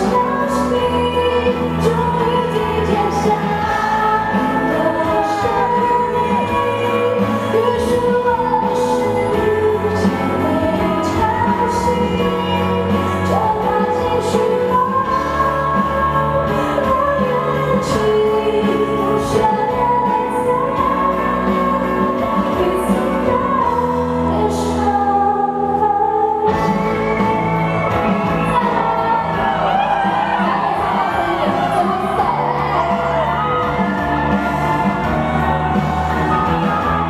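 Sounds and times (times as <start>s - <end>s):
band accompaniment: 0.0s - 25.0s, 25.6s - 37.0s
woman singing pop ballad: 0.0s - 37.0s.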